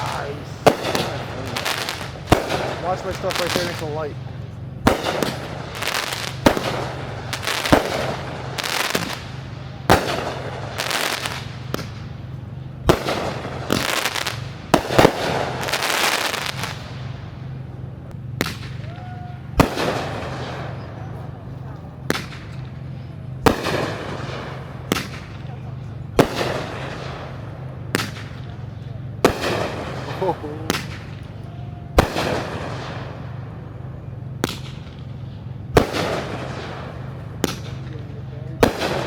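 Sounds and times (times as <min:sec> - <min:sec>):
fireworks bangs: 0:00.0 - 0:39.0
fireworks crackling and fizzing: 0:00.0 - 0:39.0.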